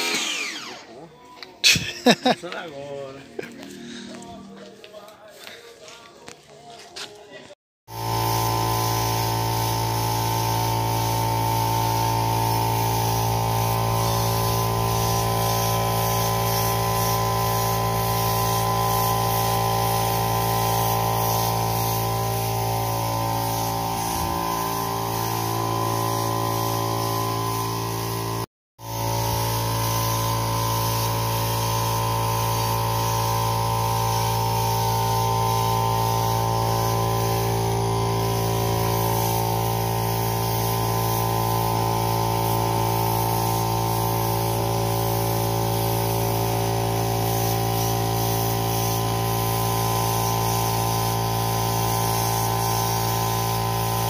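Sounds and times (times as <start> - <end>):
hiss of air: 7.9 - 54.0
spray gun spraying: 7.9 - 54.0.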